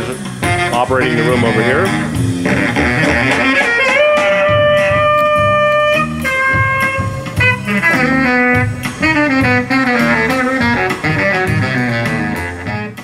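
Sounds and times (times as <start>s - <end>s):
bass: 0.0s - 13.0s
saxophone: 0.0s - 13.0s.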